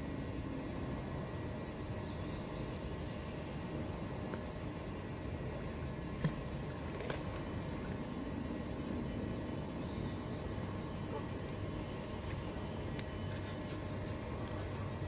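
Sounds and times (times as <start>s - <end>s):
small birds chirping: 0.0s - 5.0s, 7.9s - 15.0s
low outdoor rumble: 0.0s - 15.0s.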